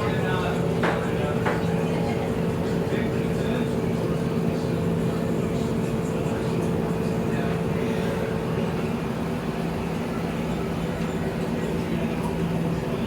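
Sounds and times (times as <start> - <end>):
washing machine spin cycle hum: 0.0 - 13.0.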